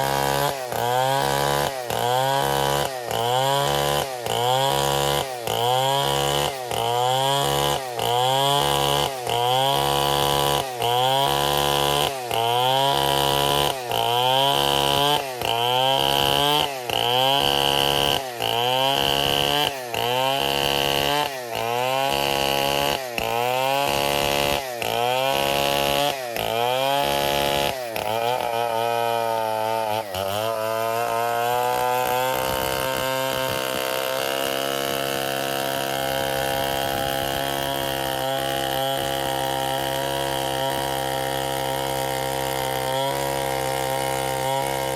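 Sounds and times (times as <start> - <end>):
chainsaw running hard: 0.0 - 44.9.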